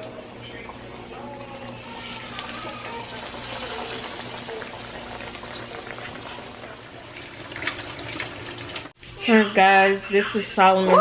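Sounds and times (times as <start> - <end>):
food frying in hot grease: 0.0 - 9.4.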